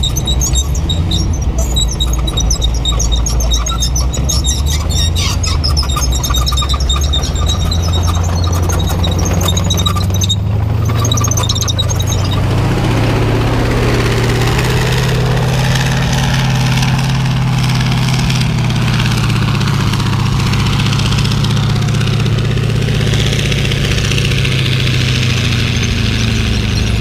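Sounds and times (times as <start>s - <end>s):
large vehicle engine idling: 0.0s - 27.0s.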